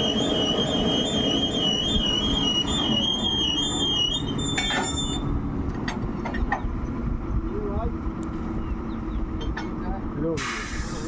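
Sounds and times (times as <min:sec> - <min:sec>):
drilling rig engine running: 0:00.0 - 0:11.0.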